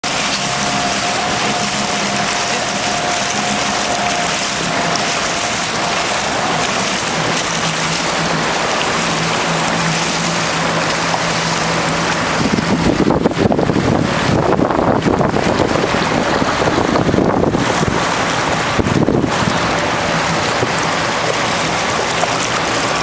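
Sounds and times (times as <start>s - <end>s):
jet ski engine hum: 0.0s - 23.0s
spray and wind rushing: 0.0s - 23.0s.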